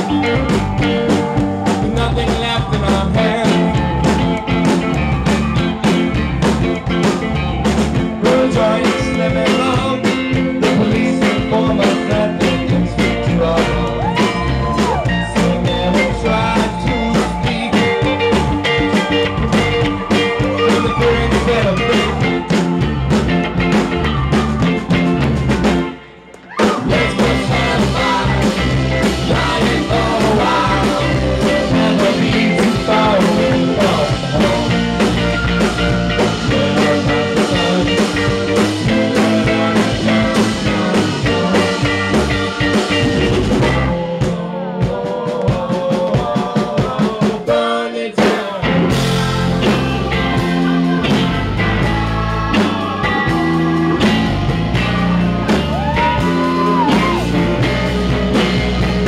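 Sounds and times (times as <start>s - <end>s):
person singing: 0.0s - 6.9s, 8.0s - 22.8s, 26.6s - 58.4s
electric bass: 0.0s - 47.0s, 48.5s - 59.0s
electric guitar: 0.0s - 47.2s, 48.4s - 59.0s
drum kit: 0.0s - 59.0s.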